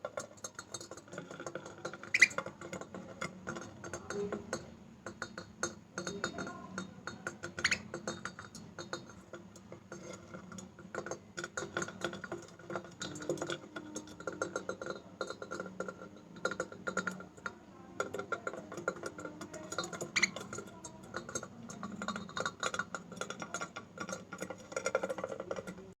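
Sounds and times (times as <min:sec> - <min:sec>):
metal utensil clinking and tapping: 0:00.0 - 0:26.0.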